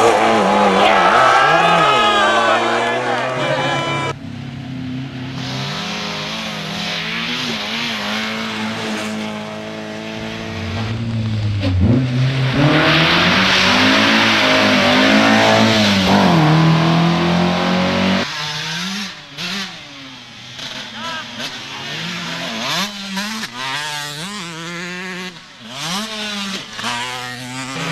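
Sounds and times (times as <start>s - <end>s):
rally car engine revving: 0.0s - 27.9s.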